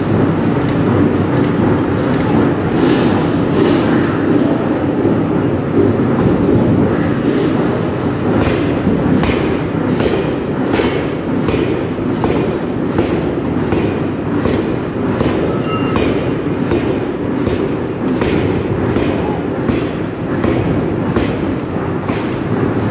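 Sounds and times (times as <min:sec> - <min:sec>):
heavy machinery rumble: 0:00.0 - 0:22.9.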